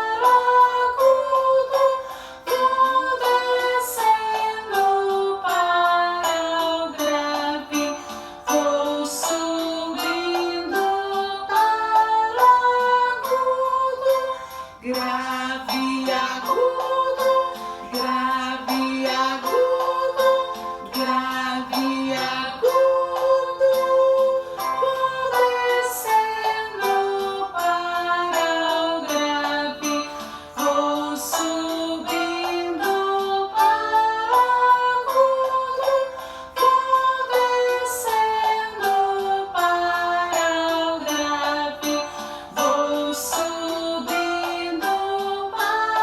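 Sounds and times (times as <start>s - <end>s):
instrumental music with steady beat: 0.0s - 46.0s
woman singing: 0.0s - 46.0s.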